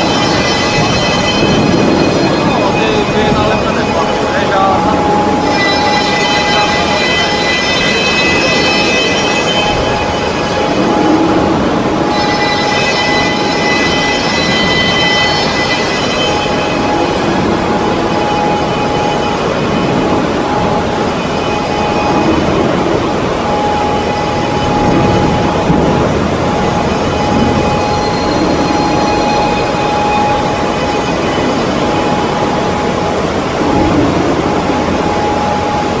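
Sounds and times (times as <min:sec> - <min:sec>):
roller conveyors running: 0:00.0 - 0:36.0
thin whine: 0:00.0 - 0:36.0.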